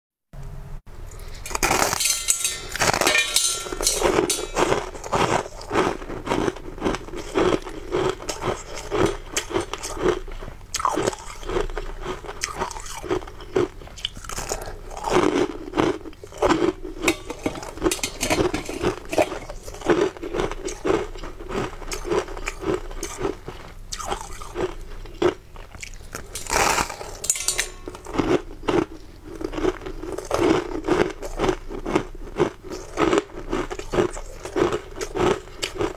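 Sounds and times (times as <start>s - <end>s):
crunching shaved ice: 1.1s - 35.9s.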